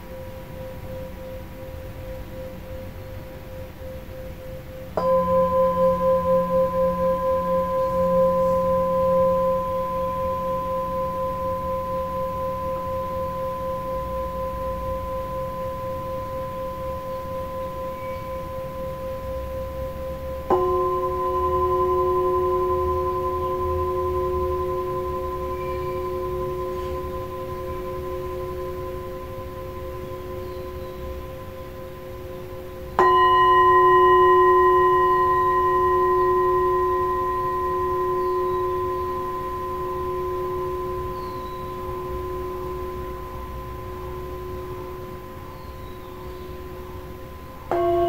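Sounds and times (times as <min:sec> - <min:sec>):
lower-pitched singing bowl ringing: 0:00.0 - 0:48.0
singing bowl ringing: 0:00.0 - 0:48.0.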